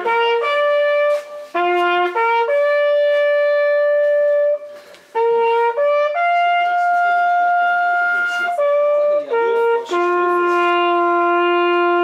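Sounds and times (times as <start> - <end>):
hunting horn signal: 0.0 - 12.0.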